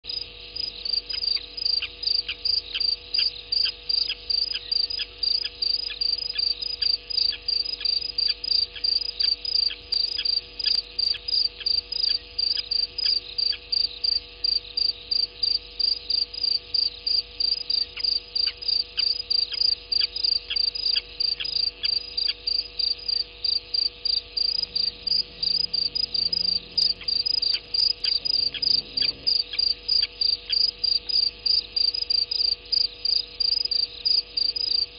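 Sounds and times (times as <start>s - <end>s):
cricket chirping: 0.1s - 34.9s.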